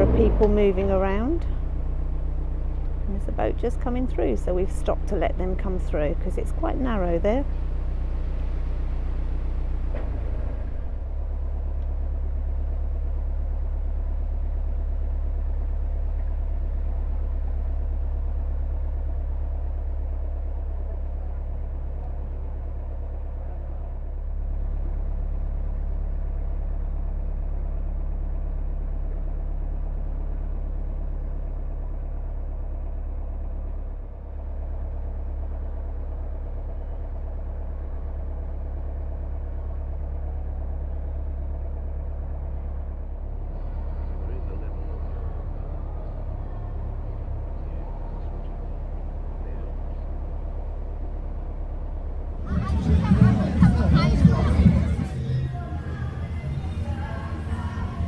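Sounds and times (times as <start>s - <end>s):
boat diesel engine running: 0.0s - 58.0s.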